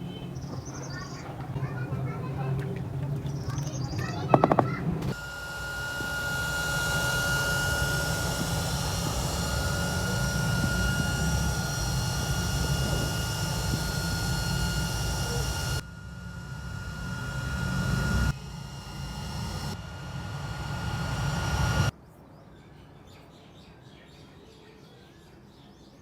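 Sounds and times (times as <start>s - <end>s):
motor-driven tool whining: 0.0s - 21.9s.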